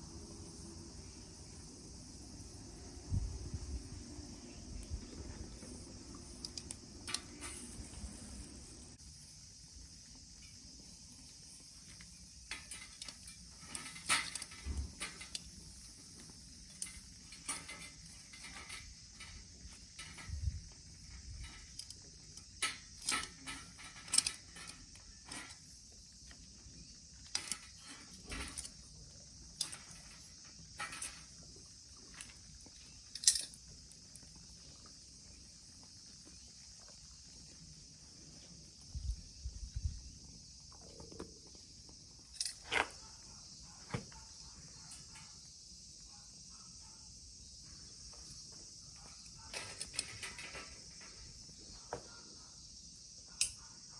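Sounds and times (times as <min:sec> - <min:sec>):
steady high hiss: 0:00.0 - 0:53.9.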